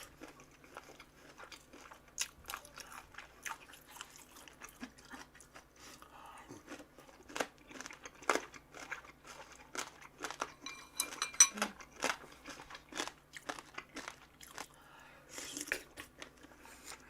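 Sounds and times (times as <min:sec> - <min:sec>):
chewing crunchy food: 0:00.0 - 0:17.0.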